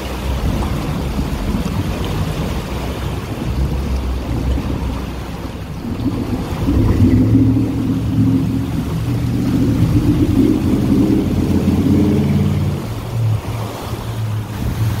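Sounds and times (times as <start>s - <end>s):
tyres splashing through water: 0.0s - 15.0s
vehicle engine rumbling: 0.0s - 15.0s.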